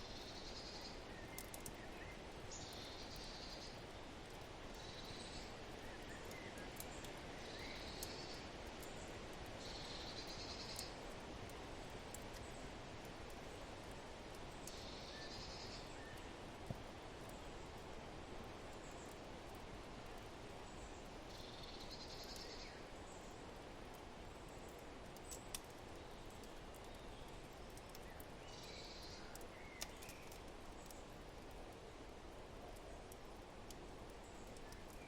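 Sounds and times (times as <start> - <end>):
wind: 0.0 - 35.0
wood fire crackling: 0.1 - 35.0.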